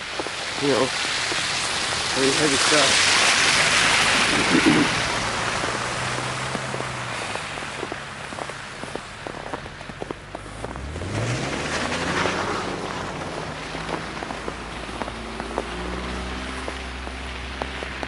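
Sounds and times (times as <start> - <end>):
snowstorm hiss: 0.0 - 18.0.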